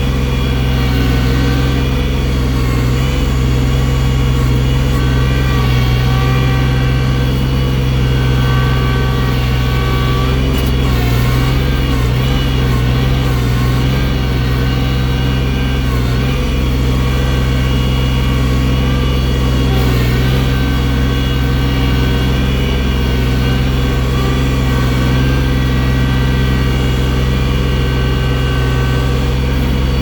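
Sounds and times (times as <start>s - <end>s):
loader engine running under load: 0.0s - 30.0s.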